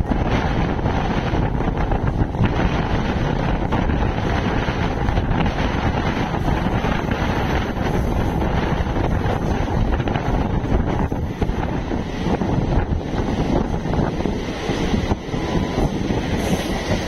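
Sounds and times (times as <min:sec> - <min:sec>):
train wheels rumbling on rail: 0:00.0 - 0:17.0
wind buffeting microphone: 0:00.0 - 0:17.0.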